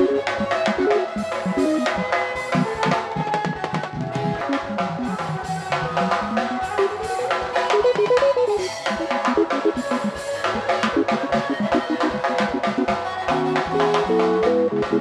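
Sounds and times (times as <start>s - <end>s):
electric guitar: 0.0s - 15.0s.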